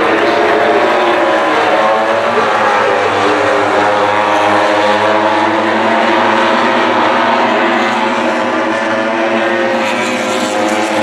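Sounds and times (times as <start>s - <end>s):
racing motorcycle engines: 0.0s - 11.0s.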